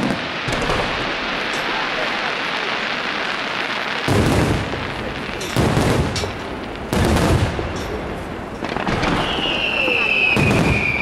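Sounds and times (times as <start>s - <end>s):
crackling hiss: 0.0s - 11.0s
firework shells booming: 0.0s - 11.0s.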